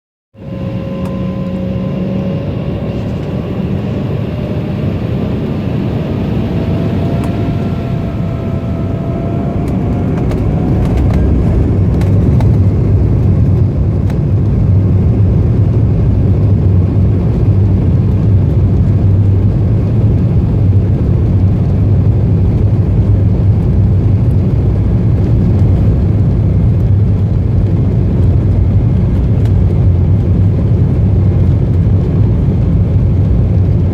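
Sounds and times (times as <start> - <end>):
jet engines whining and rumbling: 0.4 - 33.9.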